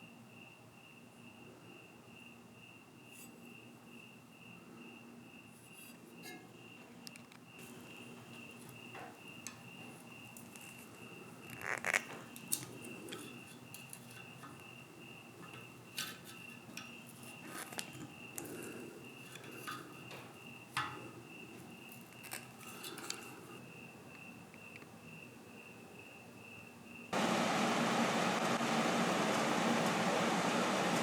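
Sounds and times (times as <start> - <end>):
cricket chirping: 0.0 - 27.2.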